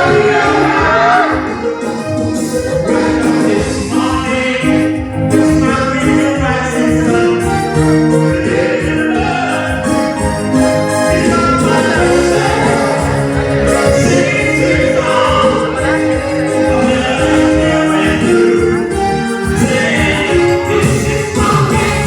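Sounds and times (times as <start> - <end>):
keyboard accompaniment: 0.0 - 22.0
voices singing: 0.0 - 22.0.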